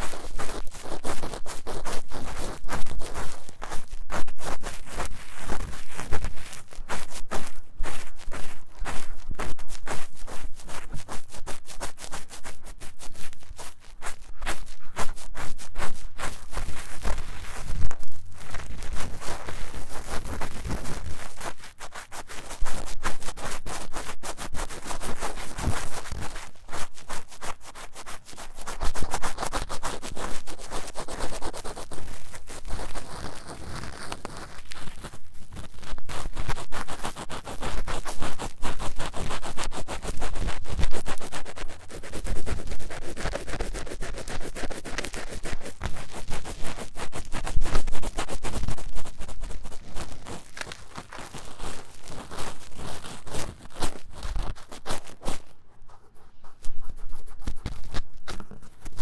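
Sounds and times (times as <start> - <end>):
tool scratching microphone ear: 0.0 - 59.0.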